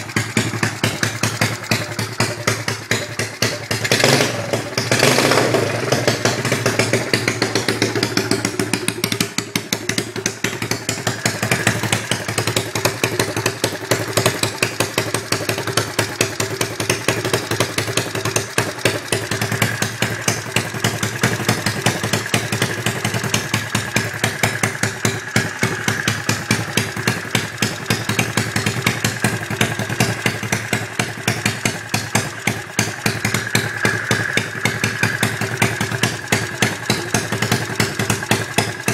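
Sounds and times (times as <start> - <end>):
small motorbike engine idling: 0.0 - 38.9.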